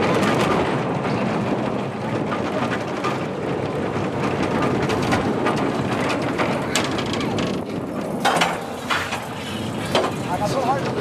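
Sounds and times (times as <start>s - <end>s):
coaster wheels rumbling on track: 0.0s - 11.0s.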